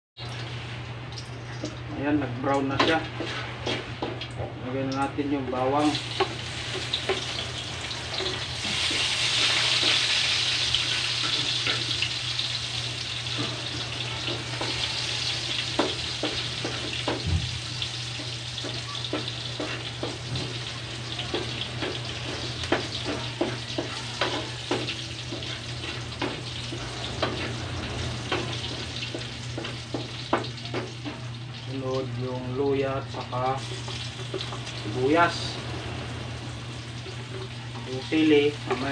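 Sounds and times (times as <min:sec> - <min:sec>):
garlic sizzling in a wok: 0:00.2 - 0:38.9.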